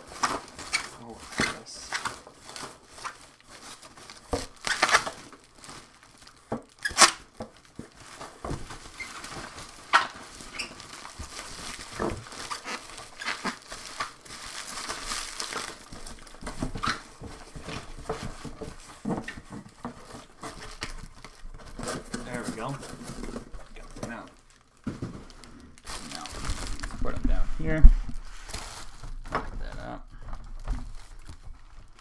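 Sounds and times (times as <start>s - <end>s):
bubble wrap crinkling: 0.0s - 32.0s.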